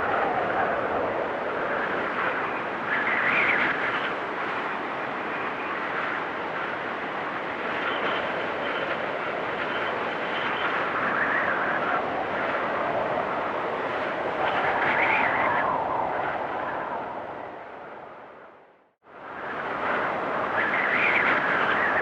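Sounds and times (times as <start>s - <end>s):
storm wind howling: 0.0s - 22.0s.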